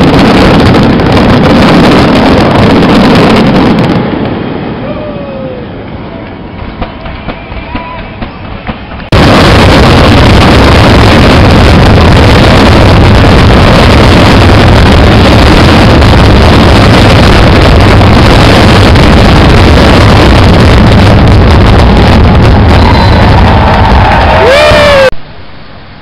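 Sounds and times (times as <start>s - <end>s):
fireworks bursting: 0.0s - 4.8s, 6.2s - 25.1s.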